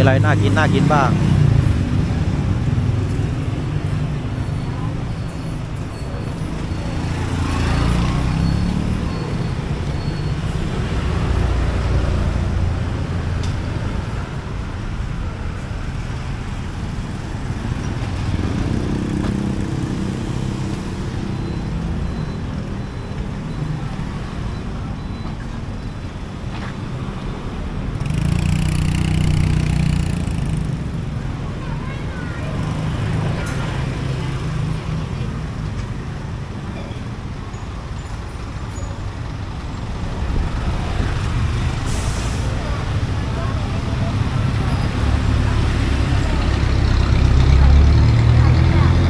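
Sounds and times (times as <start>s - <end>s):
vehicle engines passing: 0.0s - 49.0s.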